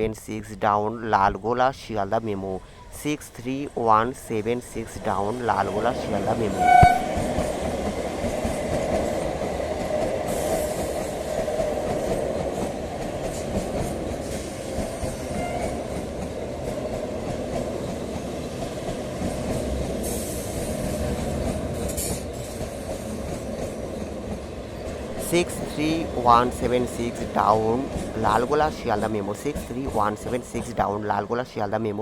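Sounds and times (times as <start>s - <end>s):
train wheels on track: 2.3s - 32.0s.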